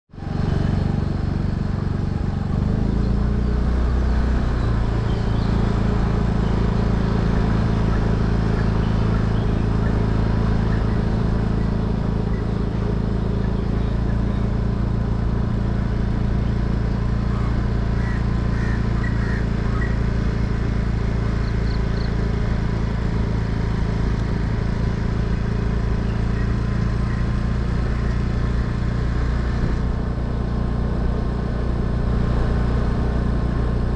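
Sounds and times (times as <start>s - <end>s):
road noise: 0.1s - 33.9s
vehicle engine cruising: 0.1s - 33.9s.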